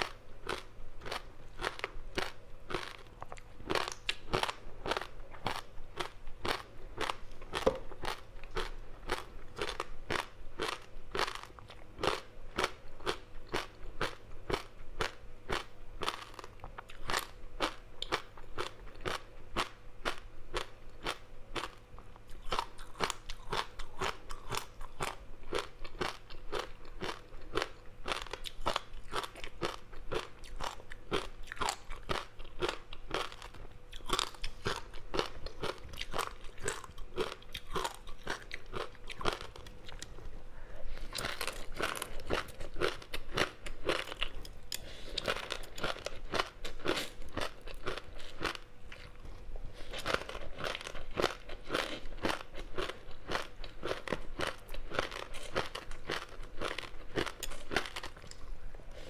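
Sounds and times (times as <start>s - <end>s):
crunchy snack chewing: 0.0s - 40.3s, 40.9s - 59.0s.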